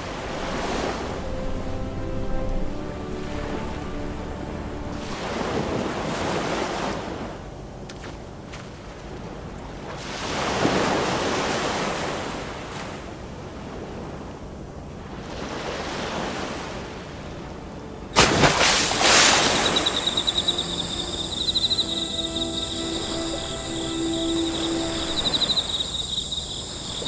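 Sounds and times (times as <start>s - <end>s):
sea waves washing ashore: 0.0s - 27.0s.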